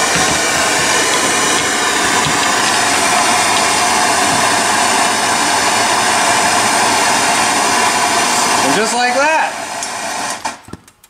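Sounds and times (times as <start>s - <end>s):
gas torch flame hissing: 0.0s - 10.7s.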